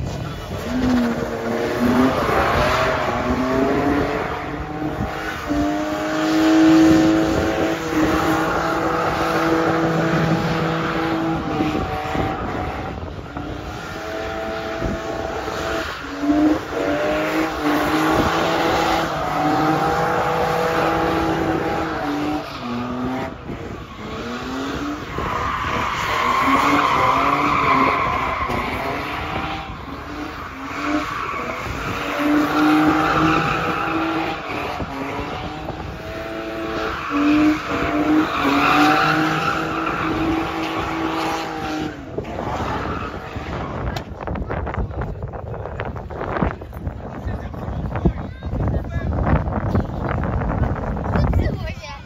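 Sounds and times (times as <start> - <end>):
car engines revving: 0.0 - 51.8.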